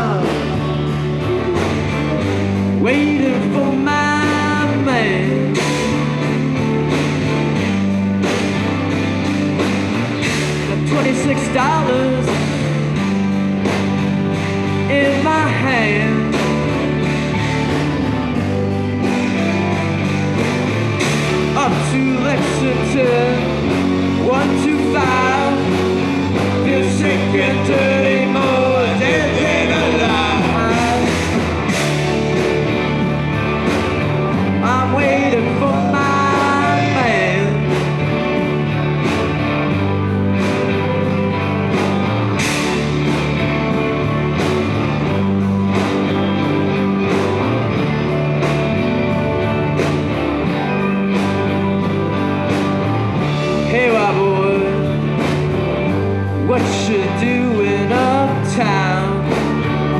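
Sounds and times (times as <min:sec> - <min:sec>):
electric guitars: 0:00.0 - 0:59.9
live rock band playing: 0:00.0 - 0:59.9.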